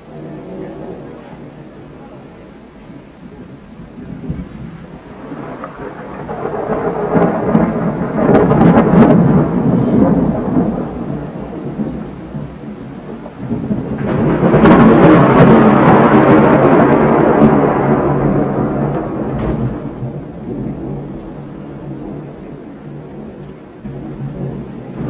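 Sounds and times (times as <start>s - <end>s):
rain falling: 0.0s - 25.0s
thunder rumbling: 0.0s - 25.0s.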